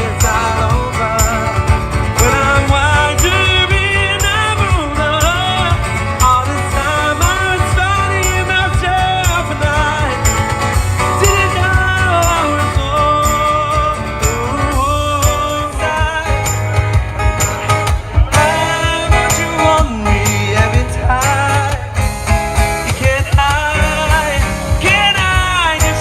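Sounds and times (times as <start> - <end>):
acoustic band playing: 0.0 - 26.0.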